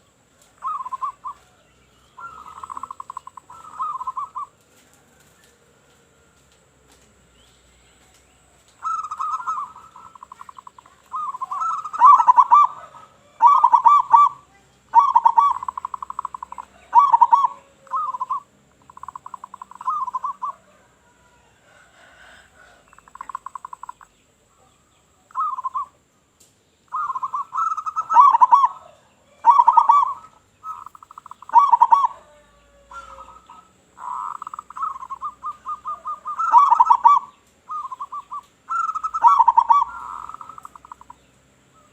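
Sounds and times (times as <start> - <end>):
dove cooing: 0.0 - 5.6, 8.4 - 24.2, 25.3 - 26.0, 26.9 - 41.2.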